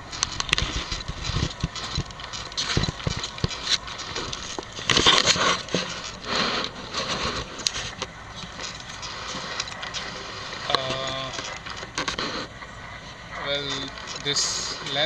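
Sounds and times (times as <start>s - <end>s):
irregular clicks and knocks: 0.0s - 15.0s
microphone handling rustle: 0.0s - 15.0s.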